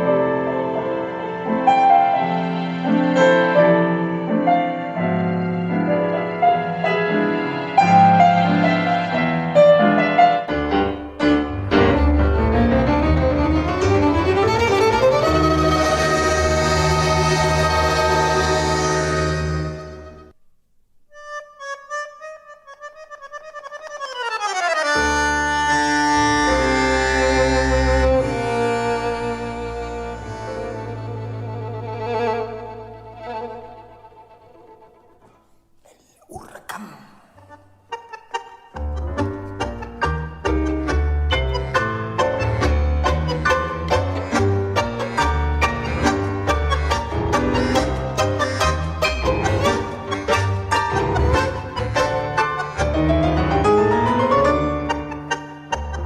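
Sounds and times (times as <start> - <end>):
tango music with piano: 0.0 - 20.3, 21.2 - 35.3, 37.9 - 56.0.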